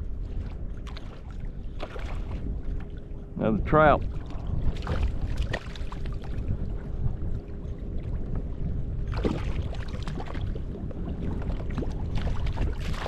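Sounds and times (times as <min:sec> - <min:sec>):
wind rumbling on microphone: 0:00.0 - 0:13.0
water splashing against kayak hull: 0:00.3 - 0:03.1, 0:03.9 - 0:13.0.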